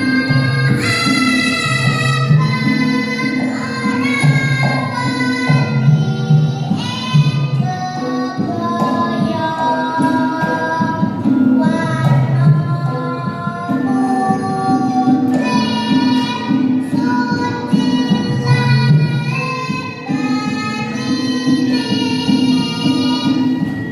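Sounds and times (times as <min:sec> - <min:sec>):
child singing: 0:00.0 - 0:23.9
instrumental accompaniment: 0:00.0 - 0:23.9.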